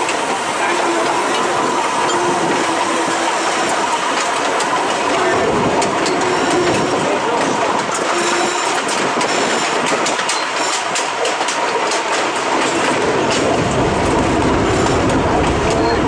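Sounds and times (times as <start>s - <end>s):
train wheels clicking over rails: 0.0s - 16.0s.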